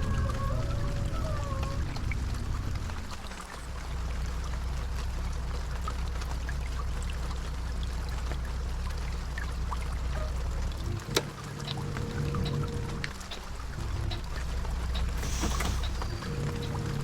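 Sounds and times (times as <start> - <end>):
bus engine and road drone: 0.0 - 17.0
rain ticking on bus: 0.0 - 17.0.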